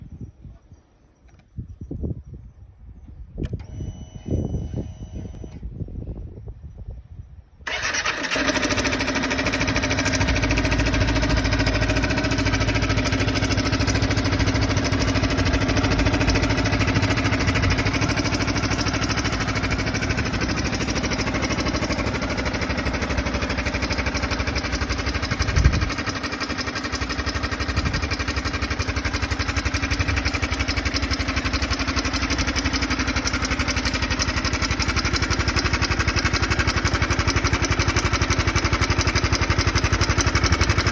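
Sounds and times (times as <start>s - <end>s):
car engine starting and idling: 7.7s - 40.9s
engine jolt: 7.7s - 40.9s.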